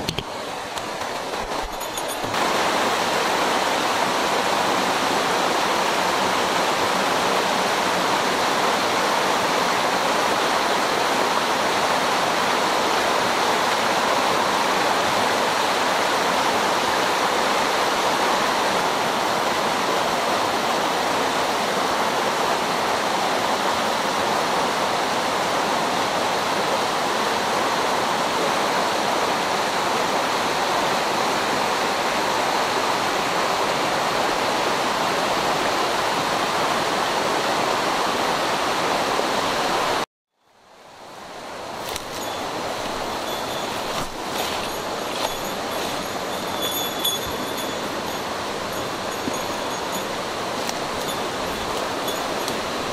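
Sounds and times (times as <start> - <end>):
stream rushing over boulders: 0.0 - 40.0, 40.6 - 52.9.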